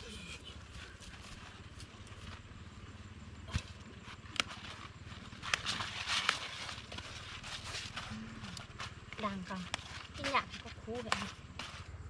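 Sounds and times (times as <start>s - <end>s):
crisp rustling of leaves: 0.0s - 12.0s.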